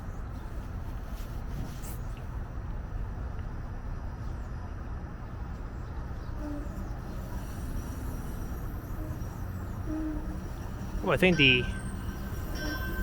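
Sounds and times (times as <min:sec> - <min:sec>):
road traffic: 0:00.0 - 0:13.0
streetcars rumbling: 0:00.0 - 0:13.0.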